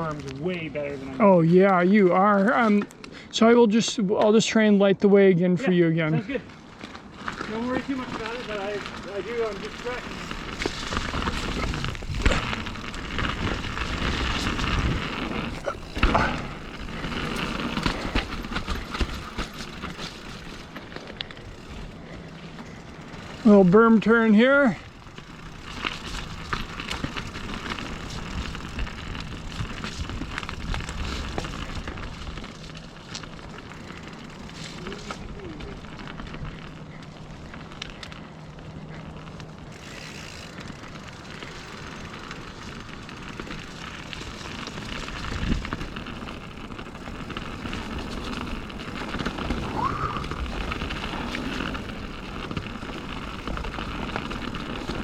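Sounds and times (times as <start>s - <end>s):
bike tyres rushing on dirt: 0.0s - 4.6s, 5.6s - 55.0s
bike rattling over bumps: 6.1s - 55.0s.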